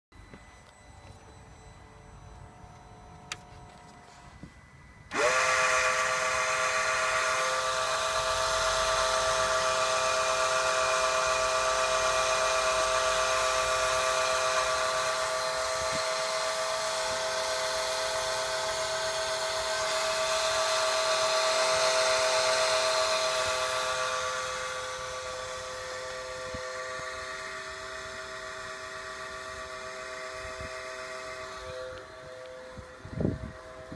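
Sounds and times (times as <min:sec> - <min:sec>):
motor-like whine: 0:00.2 - 0:33.9.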